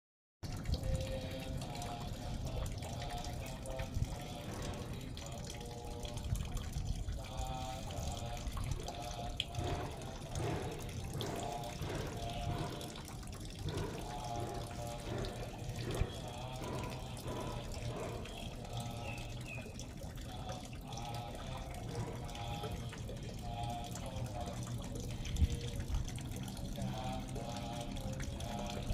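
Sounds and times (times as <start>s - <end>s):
water running and splashing: 0.4s - 28.9s.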